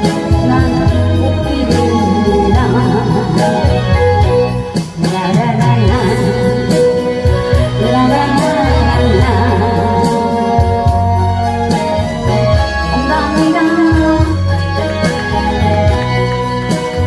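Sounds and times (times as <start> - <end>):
bass: 0.0 - 17.0
keyboard: 0.0 - 17.0
person singing: 0.0 - 17.0.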